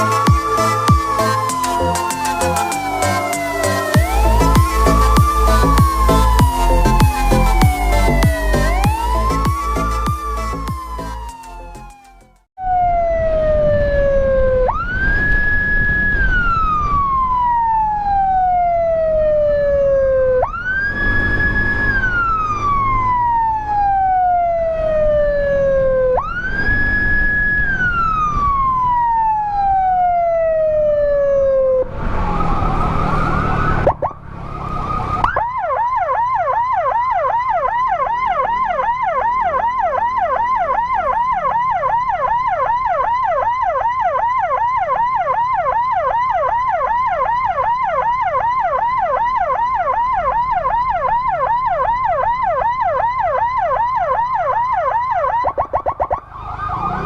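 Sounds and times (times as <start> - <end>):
electronic siren wailing and yelping: 0.0 - 57.0.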